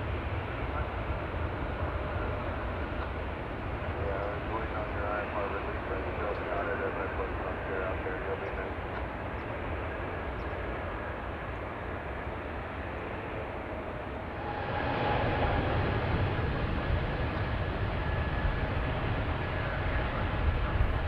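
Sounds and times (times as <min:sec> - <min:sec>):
airplane engine rushing: 0:00.0 - 0:21.0.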